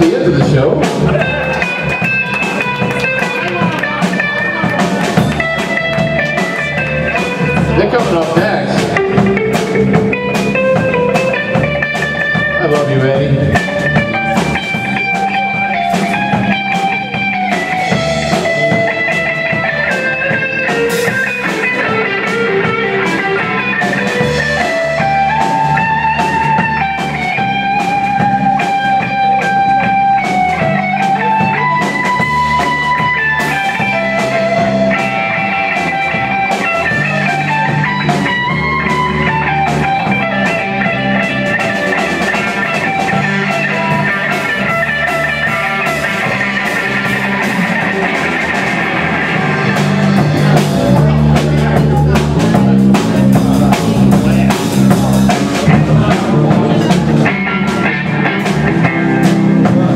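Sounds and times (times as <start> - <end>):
bass guitar: 0.0 - 59.9
electric guitar lead line: 0.0 - 59.9
steady drum beat: 0.0 - 59.9.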